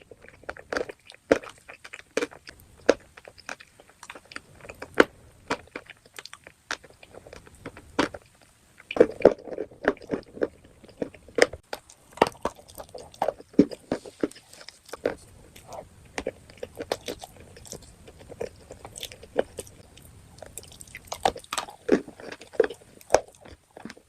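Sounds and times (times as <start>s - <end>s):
chewing hard crunchy pieces: 0.0s - 24.0s.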